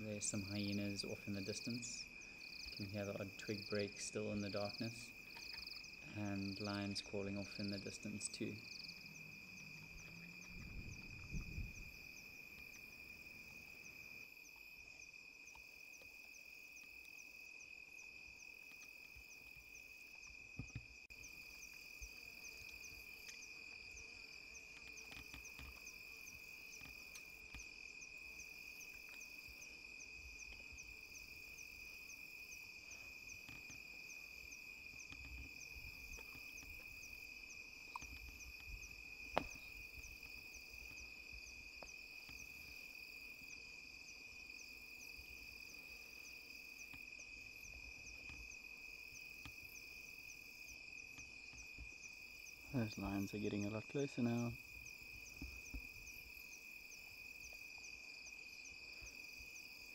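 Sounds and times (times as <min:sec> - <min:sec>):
crickets trilling: 0:00.0 - 0:59.9
pulsing insect chirp: 0:00.0 - 0:59.9.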